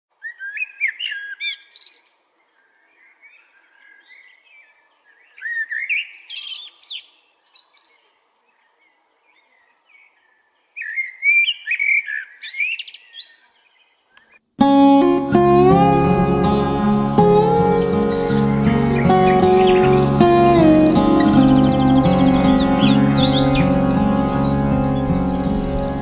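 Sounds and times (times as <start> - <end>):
songbird singing: 0.2 - 26.0.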